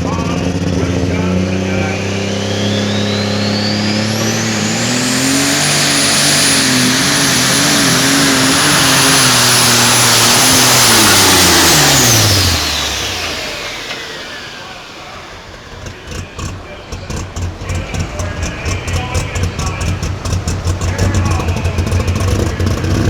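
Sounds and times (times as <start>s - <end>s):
diesel engine under load: 0.0s - 23.0s
turbo whine: 0.0s - 23.0s.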